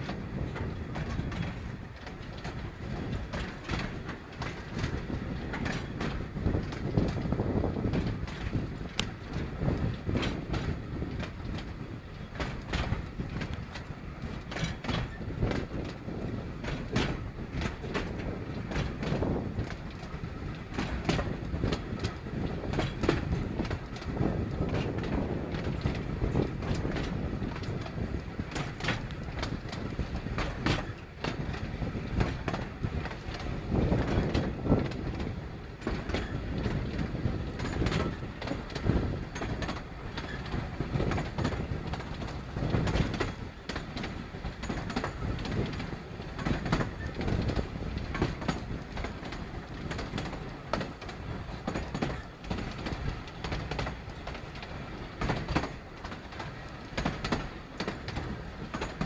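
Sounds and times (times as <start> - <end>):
train carriage rumble: 0.0 - 59.0
wheels clattering over track: 0.0 - 59.0.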